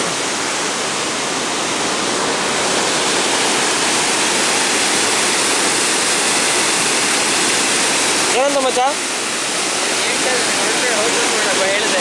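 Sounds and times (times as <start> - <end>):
rush of falling water: 0.0 - 12.0.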